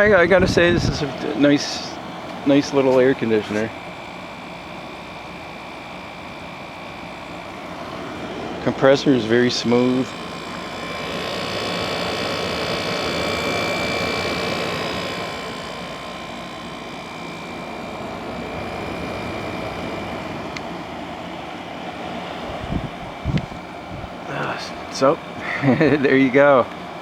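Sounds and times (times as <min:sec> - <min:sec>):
air conditioner fan whirring: 0:00.0 - 0:27.0
faint whining tones: 0:00.0 - 0:27.0.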